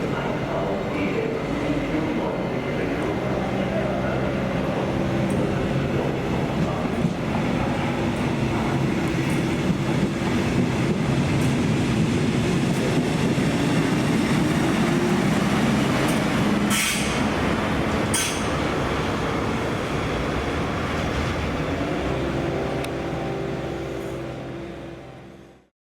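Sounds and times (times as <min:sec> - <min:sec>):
train motor hum: 0:00.0 - 0:25.6
train rolling rumble: 0:00.0 - 0:25.6.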